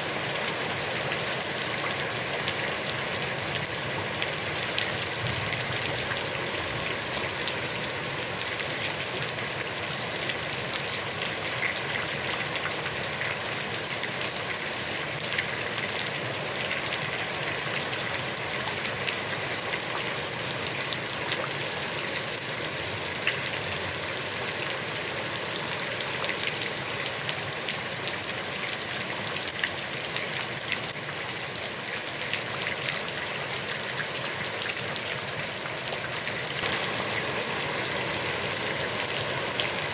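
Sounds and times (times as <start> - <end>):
heavy rain on pond water: 0.0 - 39.9.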